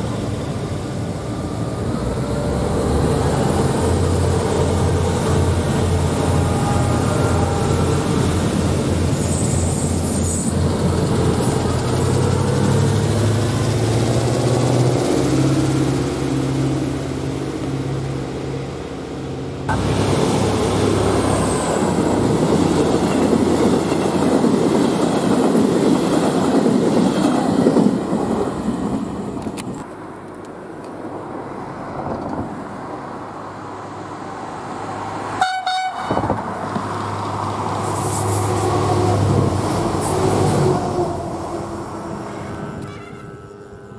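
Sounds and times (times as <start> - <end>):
diesel railcar engines: 0.0 - 43.9
passenger coaches rolling past: 0.0 - 43.9.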